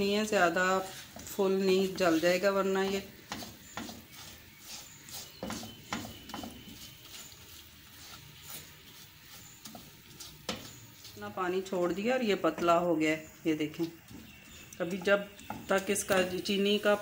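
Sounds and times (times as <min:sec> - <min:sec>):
spatula scraping frying pan: 0:00.0 - 0:12.9, 0:13.8 - 0:17.0.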